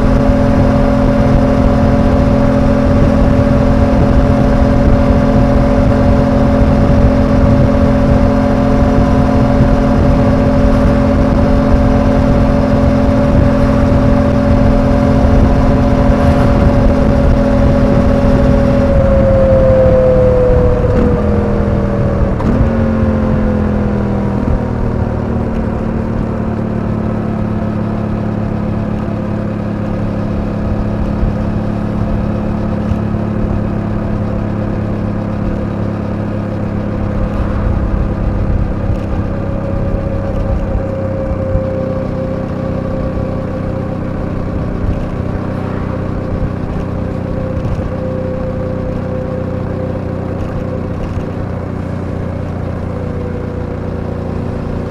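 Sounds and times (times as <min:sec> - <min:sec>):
motorcycle engine cruising: 0:00.0 - 0:54.9.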